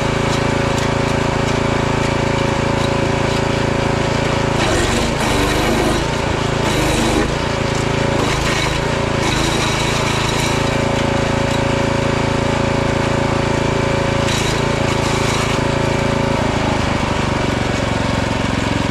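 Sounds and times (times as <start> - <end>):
wood chipper engine running: 0.0 - 18.9.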